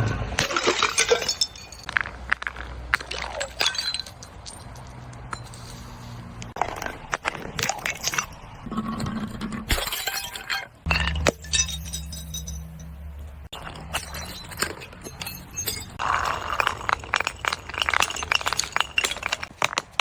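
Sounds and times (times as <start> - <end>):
glass breaking: 0.4 - 5.8, 6.7 - 20.0
glass shards clinking: 0.4 - 6.3, 7.6 - 19.8.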